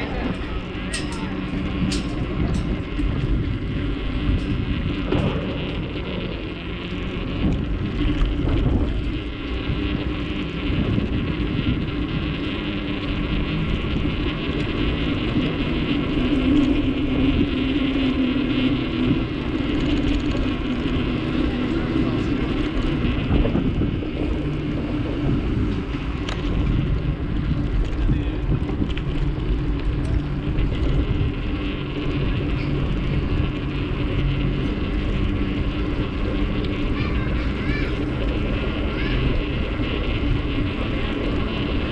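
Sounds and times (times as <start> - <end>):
bicycle tyres rolling on path: 0.0 - 41.9
wind on microphone: 0.0 - 41.9.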